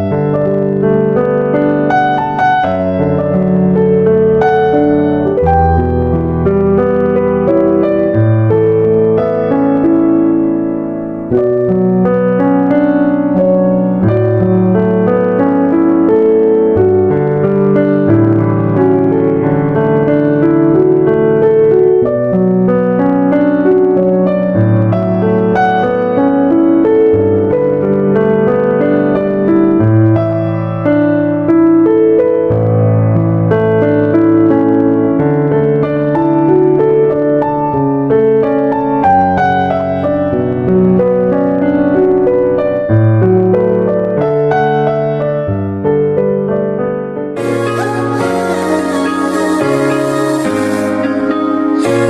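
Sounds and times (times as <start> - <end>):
slow piano piece: 0.0 - 52.0.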